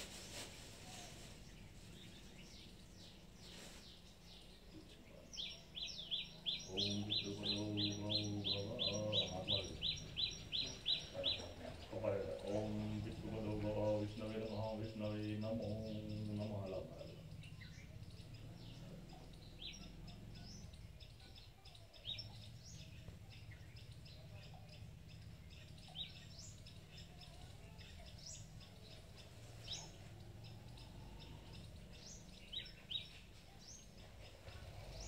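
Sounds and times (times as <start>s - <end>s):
faint low hum: 0.0s - 35.0s
small birds chirping: 0.0s - 35.0s.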